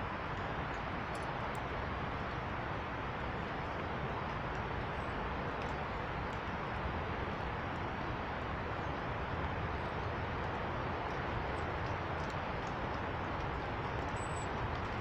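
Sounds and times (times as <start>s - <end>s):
steady rushing outdoor noise: 0.0s - 15.0s.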